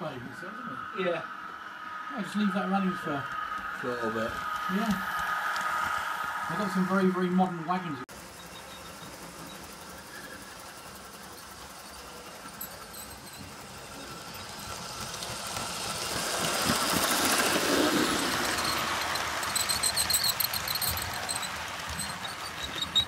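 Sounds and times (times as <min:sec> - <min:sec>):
model train rolling on track: 0:00.0 - 0:23.0.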